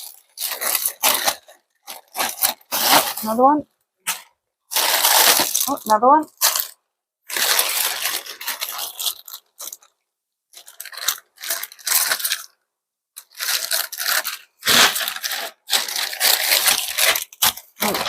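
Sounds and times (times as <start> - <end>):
plastic packaging crinkling: 0.0 - 3.5, 4.1 - 12.6, 13.2 - 18.0.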